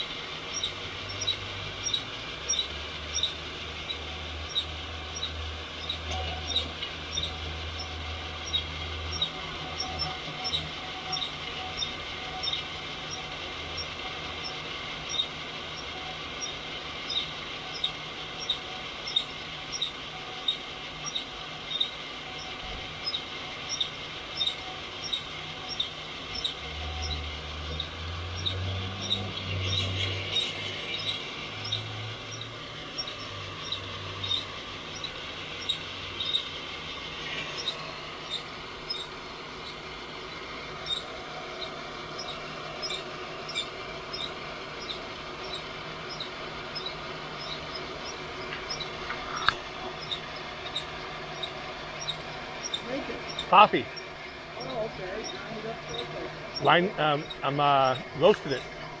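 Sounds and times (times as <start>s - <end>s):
heat gun air rushing: 0.0s - 59.0s
rotating drum squeaking: 0.0s - 59.0s.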